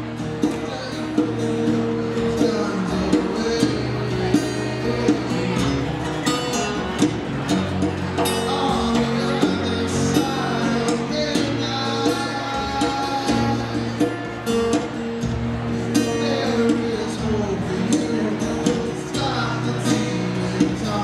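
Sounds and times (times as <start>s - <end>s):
acoustic guitar strummed: 0.0s - 21.0s
man singing: 0.2s - 6.0s, 8.2s - 14.9s, 15.8s - 21.0s.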